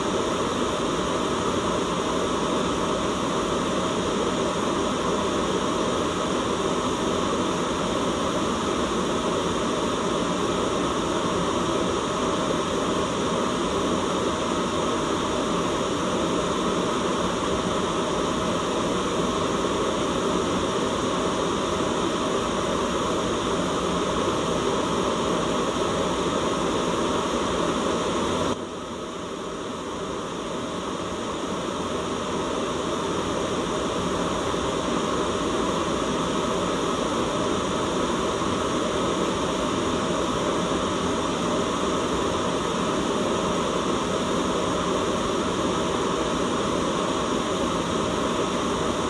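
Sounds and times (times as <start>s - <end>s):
steady white noise: 0.0s - 49.0s.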